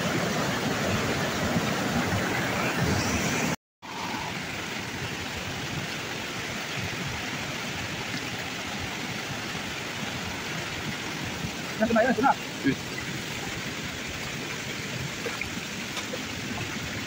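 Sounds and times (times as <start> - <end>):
stream rushing over stones: 0.0 - 17.0.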